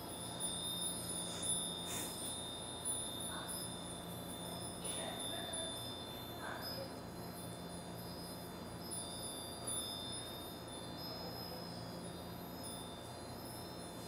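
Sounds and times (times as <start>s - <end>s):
wind bells chiming: 0.0s - 14.0s.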